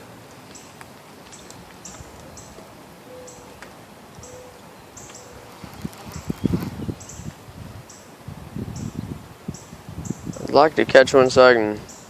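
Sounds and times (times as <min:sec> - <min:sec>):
wind hiss: 0:00.0 - 0:12.0.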